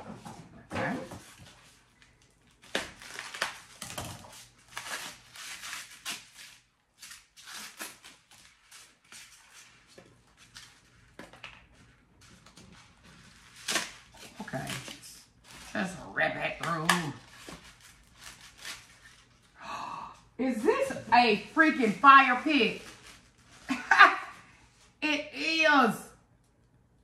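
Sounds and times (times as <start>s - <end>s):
plastic wrapping crinkling: 1.2s - 19.6s, 20.8s - 24.4s.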